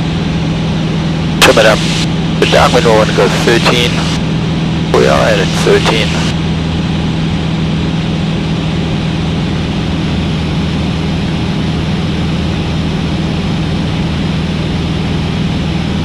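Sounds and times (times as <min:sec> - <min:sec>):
light aircraft engine drone: 0:00.0 - 0:16.0.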